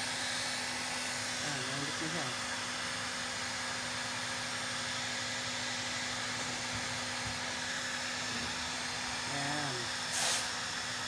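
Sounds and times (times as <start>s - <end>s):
heat gun fan whirring: 0.0s - 11.0s.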